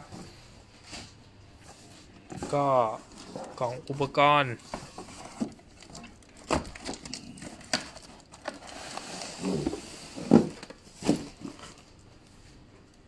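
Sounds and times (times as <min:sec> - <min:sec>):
cardboard rustling and scraping: 0:00.0 - 0:12.6.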